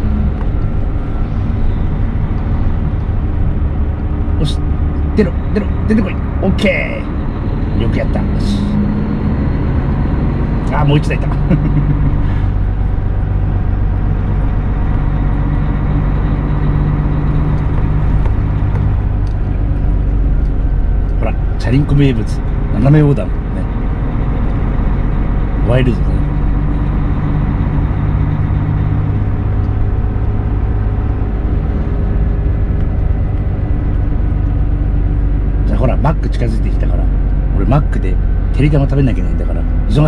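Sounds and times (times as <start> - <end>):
road noise: 0.0 - 40.0
truck diesel engine hum: 0.0 - 40.0.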